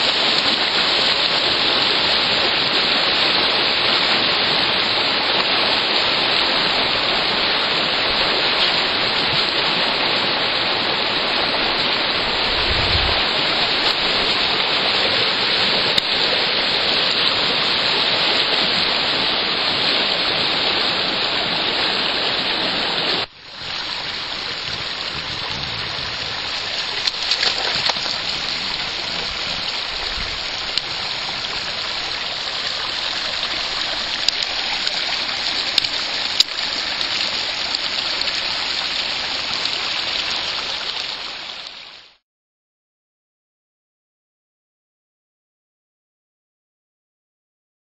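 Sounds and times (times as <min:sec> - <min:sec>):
river water rushing: 0:00.0 - 0:42.2.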